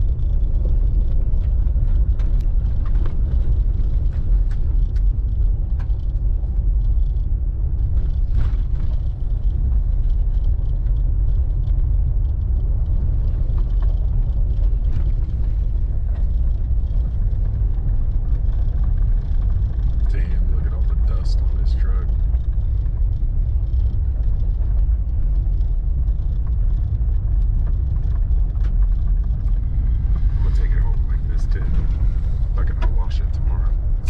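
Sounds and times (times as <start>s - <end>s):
knocks and rattles over bumps: 0.0s - 34.0s
truck rumbling over dirt trail: 0.0s - 34.0s.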